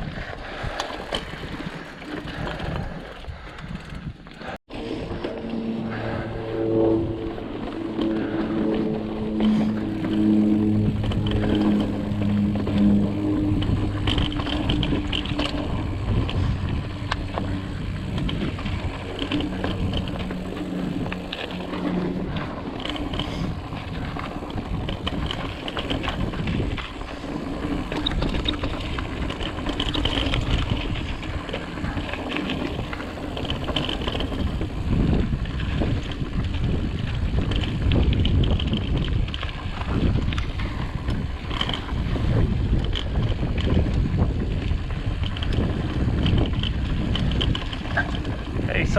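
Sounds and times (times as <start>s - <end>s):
bike rattling clicks and knocks: 0.0s - 5.7s, 7.5s - 48.9s
bike tyre noise: 0.0s - 48.9s
wind buffeting microphone: 0.0s - 48.9s.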